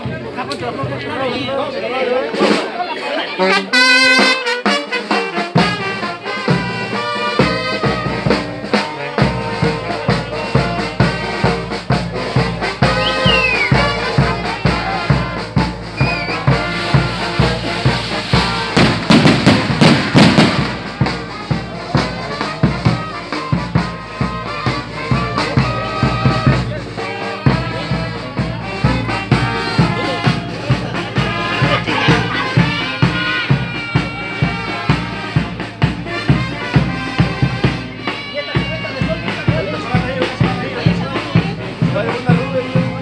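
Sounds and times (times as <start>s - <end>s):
brass band playing: 0.0s - 43.0s
bass drum beat: 5.6s - 43.0s.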